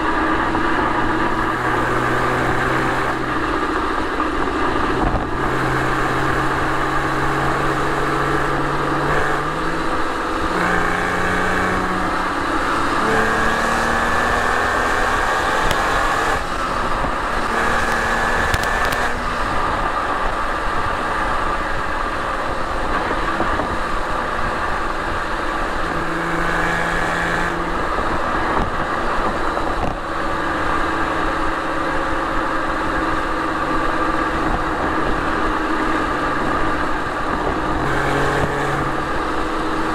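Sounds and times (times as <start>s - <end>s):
car exhaust at highway speed: 0.0s - 39.9s.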